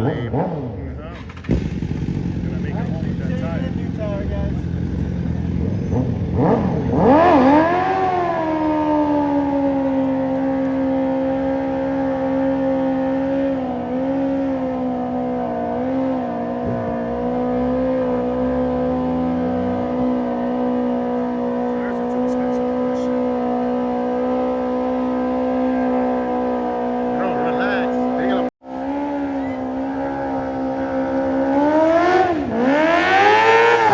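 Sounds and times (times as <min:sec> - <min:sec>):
motorcycle engine revving: 0:00.0 - 0:33.9
second engine rising in pitch: 0:01.4 - 0:33.9.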